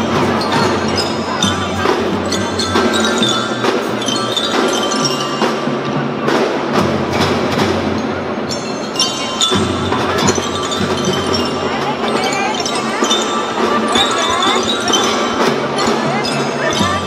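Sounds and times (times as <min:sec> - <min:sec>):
drums beating: 0:00.0 - 0:17.0
mallet percussion melody: 0:00.0 - 0:17.0.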